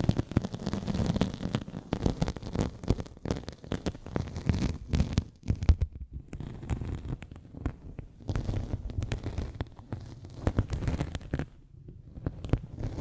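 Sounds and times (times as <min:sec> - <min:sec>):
soft crackling and clicking: 0:00.0 - 0:13.0.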